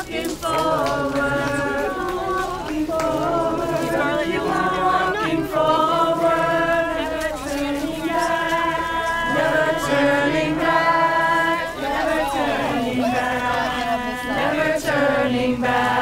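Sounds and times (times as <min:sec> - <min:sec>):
crowd chanting in unison: 0:00.0 - 0:16.0.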